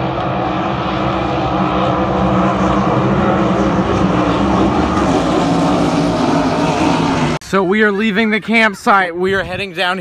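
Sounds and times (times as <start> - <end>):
racing boat engines droning: 0.0 - 9.1.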